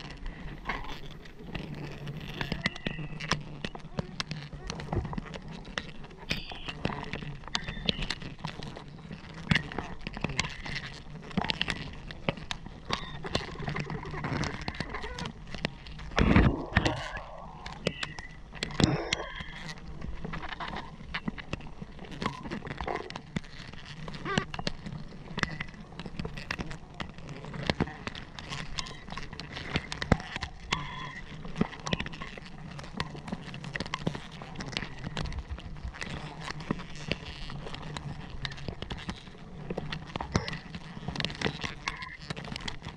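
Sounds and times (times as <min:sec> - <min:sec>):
small clicks and knocks: 0:00.0 - 0:42.9.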